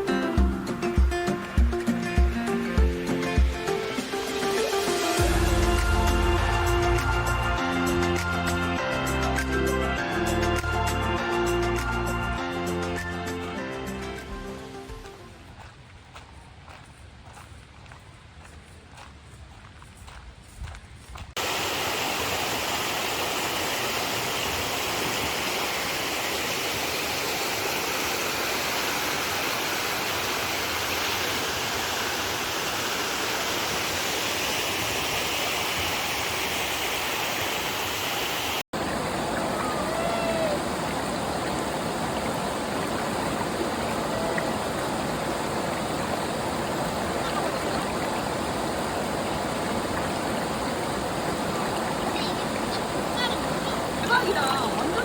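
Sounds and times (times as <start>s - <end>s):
stream water rushing: 0.0s - 15.8s, 21.4s - 55.0s.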